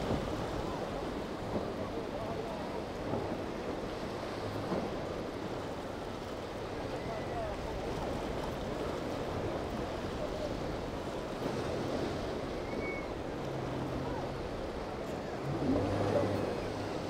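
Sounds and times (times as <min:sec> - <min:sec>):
distant boat engines humming: 0:00.0 - 0:17.0
waves and surf washing: 0:00.0 - 0:17.0.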